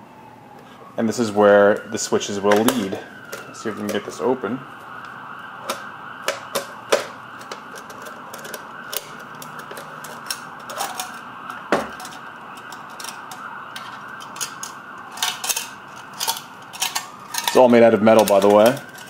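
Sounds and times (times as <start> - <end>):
packaging clicks and taps: 2.5 - 4.0, 5.0 - 19.0.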